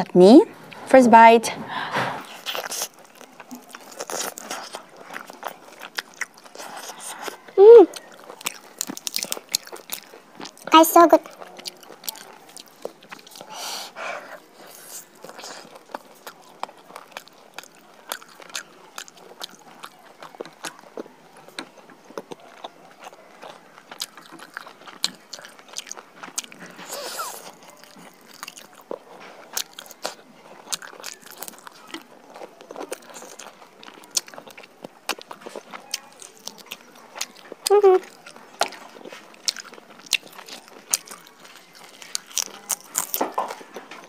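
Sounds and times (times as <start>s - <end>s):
biting and chewing meat: 2.2s - 44.0s.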